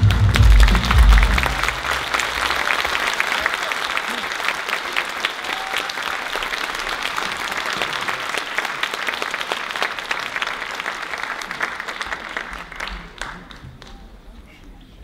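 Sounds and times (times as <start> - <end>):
audience applauding: 0.0 - 14.3.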